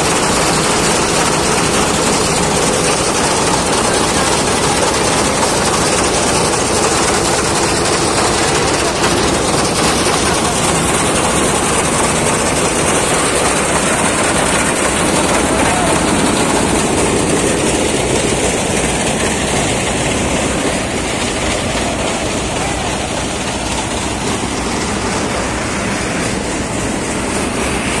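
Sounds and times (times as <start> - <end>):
thresher mechanical clatter: 0.0 - 28.0.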